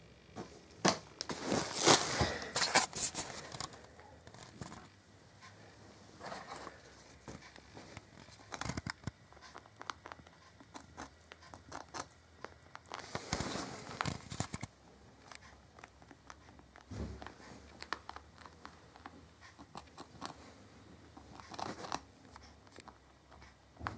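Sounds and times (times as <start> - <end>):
rabbit gnawing: 2.6 - 23.9.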